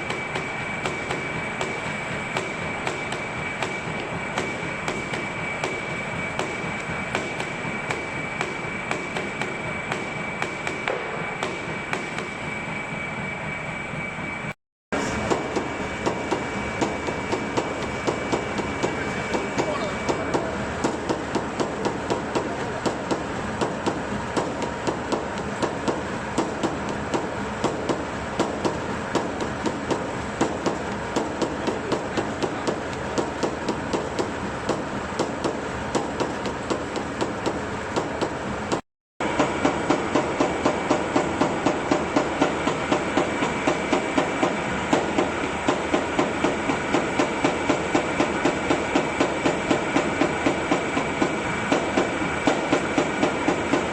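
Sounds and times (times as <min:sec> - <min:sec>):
machine running: 0:00.0 - 0:53.9.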